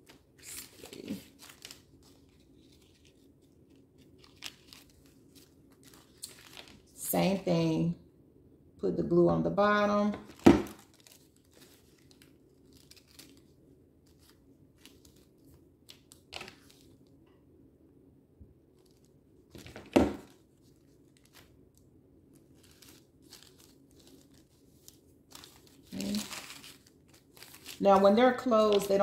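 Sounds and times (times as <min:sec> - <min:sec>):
paper rustling and crinkling: 0:00.0 - 0:07.0, 0:10.1 - 0:17.2, 0:18.7 - 0:29.0.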